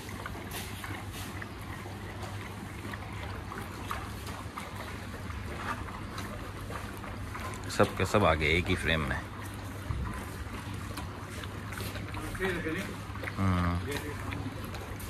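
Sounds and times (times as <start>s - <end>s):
dogs lapping: 0.0s - 15.0s
steady low hum: 0.0s - 15.0s.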